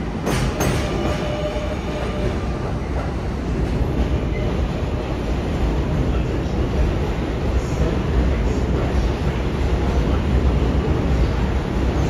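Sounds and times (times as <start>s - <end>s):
subway train rumble: 0.0s - 12.0s
subway wheels clicking over joints: 0.0s - 12.0s.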